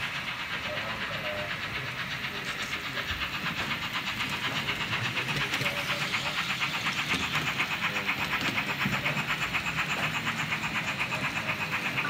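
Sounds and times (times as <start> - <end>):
model steam locomotive running: 0.0 - 12.0.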